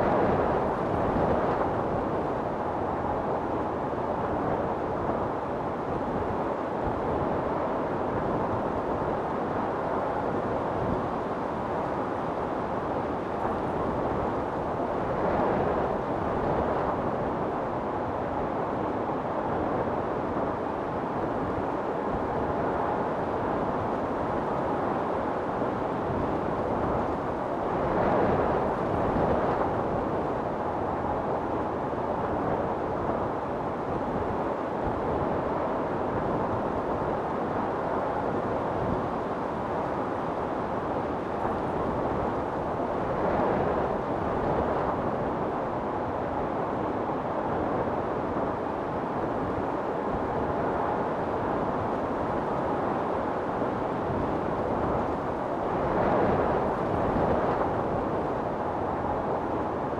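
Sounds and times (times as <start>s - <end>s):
wind storm blowing: 0.0s - 59.9s.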